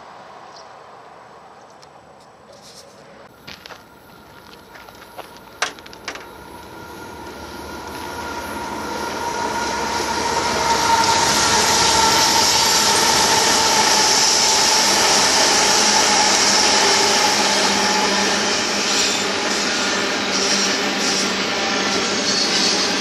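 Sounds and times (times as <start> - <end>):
diesel locomotives rumbling: 0.0 - 23.0.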